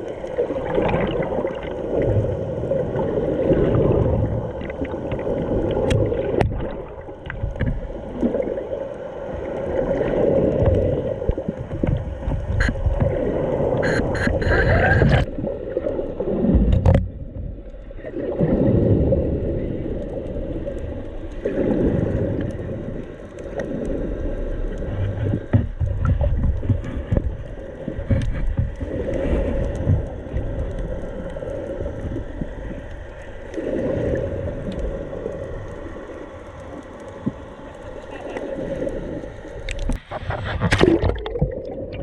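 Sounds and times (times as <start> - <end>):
muffled underwater rush of water: 0.0 - 42.0.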